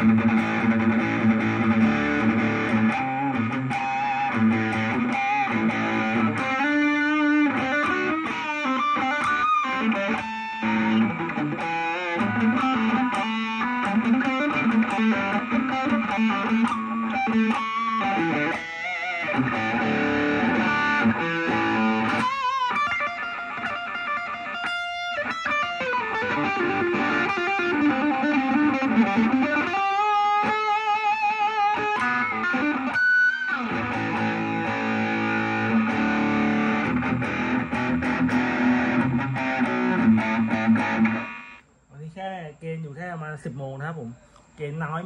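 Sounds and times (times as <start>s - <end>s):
overdriven electric guitar lead: 0.0s - 41.6s.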